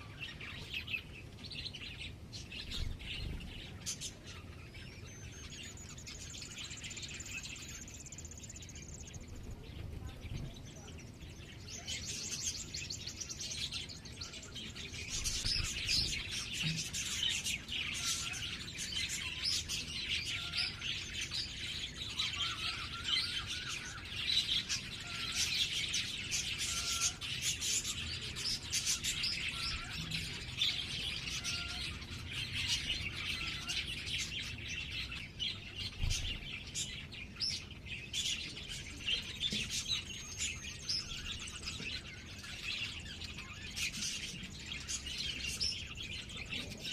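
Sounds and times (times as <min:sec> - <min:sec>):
birds chirping chorus: 0:00.0 - 0:46.9.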